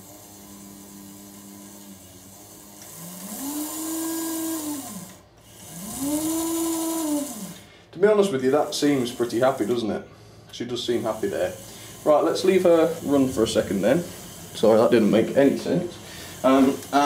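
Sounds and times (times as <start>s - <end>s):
model locomotive motor whining: 0.0s - 17.0s.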